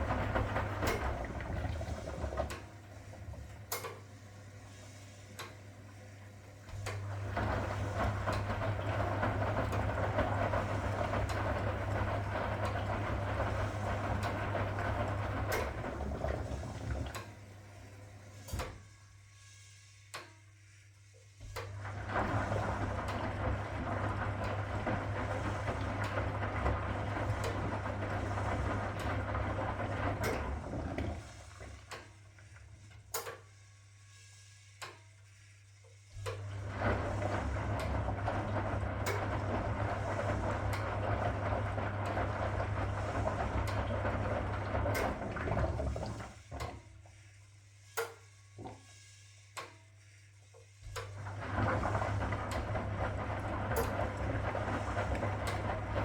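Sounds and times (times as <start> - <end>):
washing machine drum churning: 0.0 - 19.0, 21.4 - 33.4, 36.2 - 47.3, 50.8 - 56.0.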